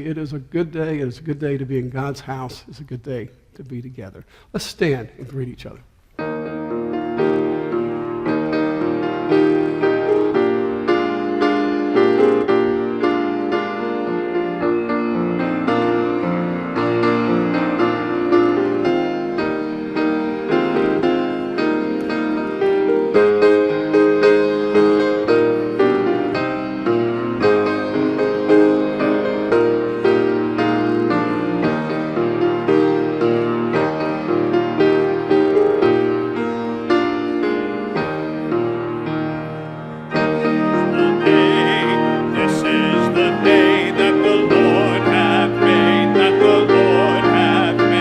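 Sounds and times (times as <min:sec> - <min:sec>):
piano music: 0:06.1 - 0:48.0.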